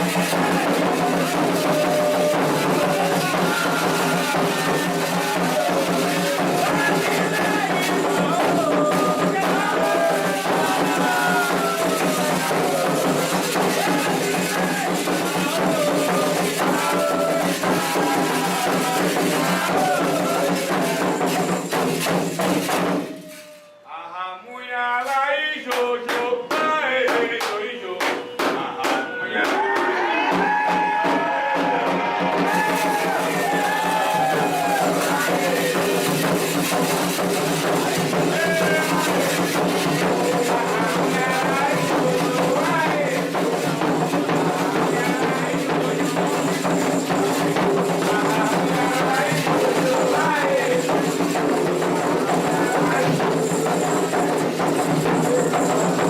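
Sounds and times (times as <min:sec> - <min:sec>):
voices singing: 0:00.0 - 0:21.5, 0:32.3 - 0:56.0
people chanting: 0:00.0 - 0:21.8, 0:23.0 - 0:56.0
hand drums and percussion: 0:00.0 - 0:23.8, 0:25.7 - 0:56.0
sharp percussion strikes: 0:00.0 - 0:23.8, 0:30.3 - 0:56.0.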